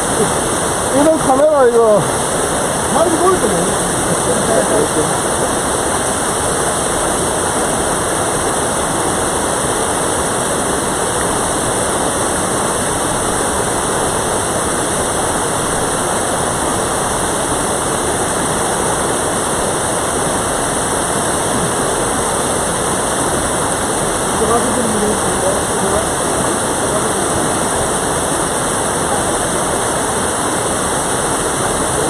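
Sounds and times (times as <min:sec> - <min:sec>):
stream rushing over rocks: 0:00.0 - 0:32.0.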